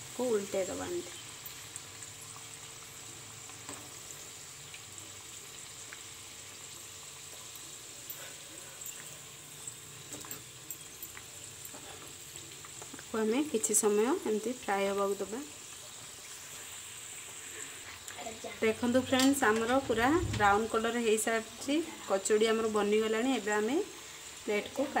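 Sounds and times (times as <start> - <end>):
deep-frying sizzle with crackles: 0.0 - 25.0.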